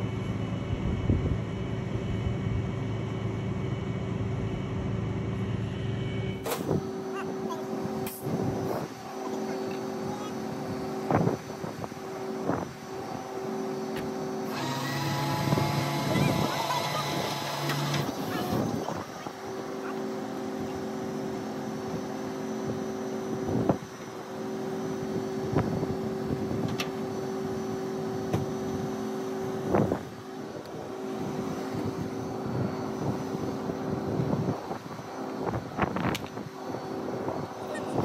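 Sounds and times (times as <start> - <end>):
winch and engine humming: 6.7 - 38.0.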